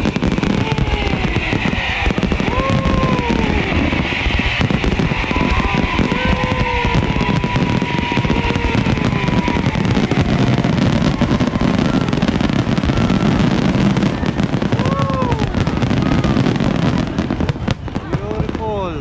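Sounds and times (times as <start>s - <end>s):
low rumble: 0.0s - 18.2s
crowd calling out: 0.0s - 18.8s
fireworks crackling: 0.0s - 19.0s.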